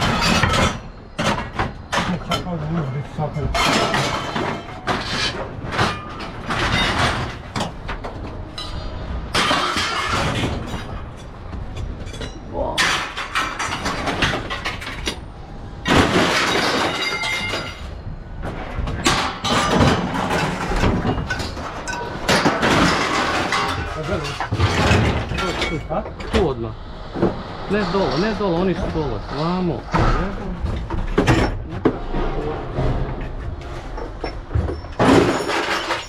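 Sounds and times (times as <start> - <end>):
scrap metal clanging: 0.0 - 15.3, 15.9 - 36.0
vehicle engine rumbling: 0.0 - 36.0.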